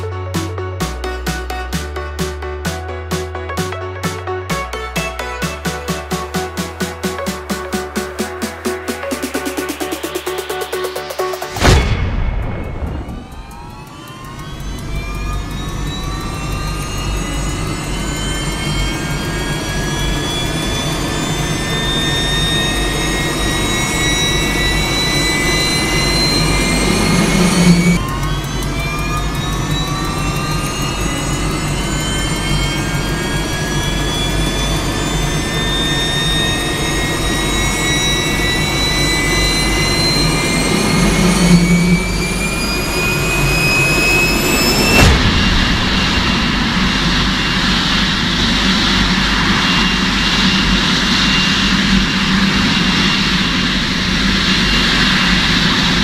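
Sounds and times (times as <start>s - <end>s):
jet engine turbine whine: 4.0s - 56.0s.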